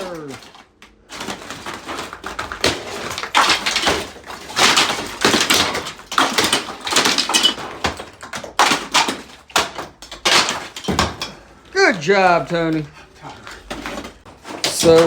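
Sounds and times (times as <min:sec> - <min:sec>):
debris crashing down: 0:00.0 - 0:12.9
wall material cracking and scraping: 0:00.0 - 0:15.0.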